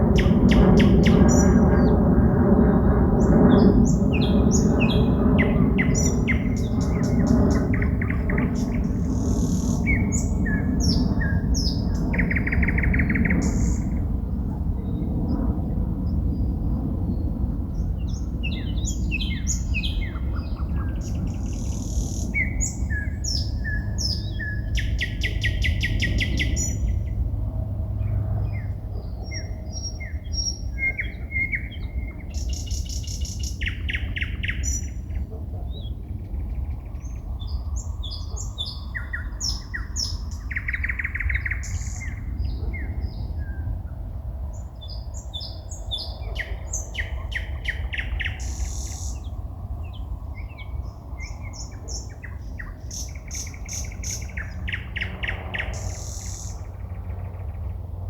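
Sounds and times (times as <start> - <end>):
low background rumble: 0.0 - 58.0
songbirds singing: 0.0 - 58.0.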